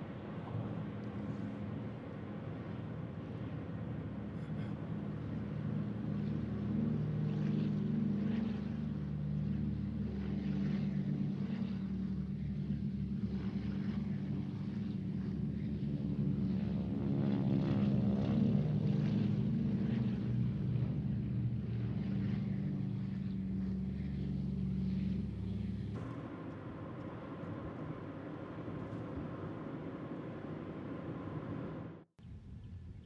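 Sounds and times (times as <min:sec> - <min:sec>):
low engine drone: 0:00.0 - 0:32.1.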